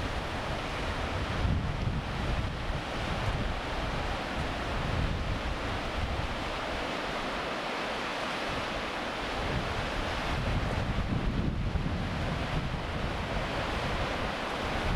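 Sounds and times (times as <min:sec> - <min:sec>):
wind buffeting microphone: 0:00.0 - 0:06.5, 0:09.4 - 0:14.9
sea waves washing on shore: 0:00.0 - 0:14.9.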